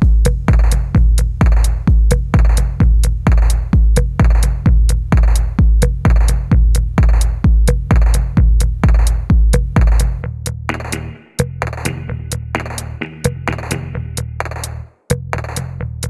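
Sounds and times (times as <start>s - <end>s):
electronic music with drum beat: 0.0s - 16.0s.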